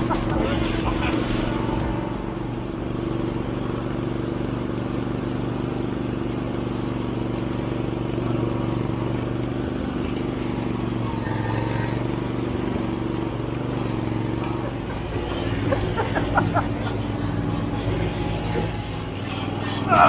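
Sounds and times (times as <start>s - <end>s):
riding lawn mower engine running: 0.0s - 20.0s.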